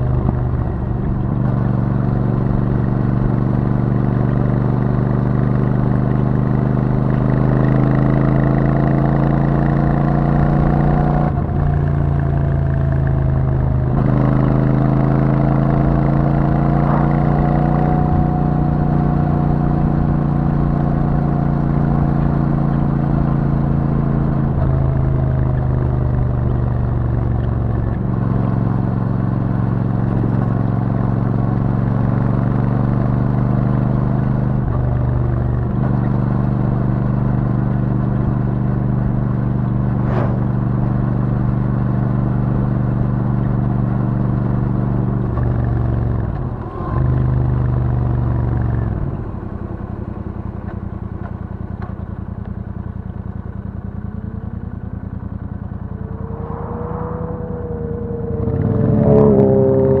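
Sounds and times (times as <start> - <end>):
motorcycle engine cruising: 0.0 - 60.0.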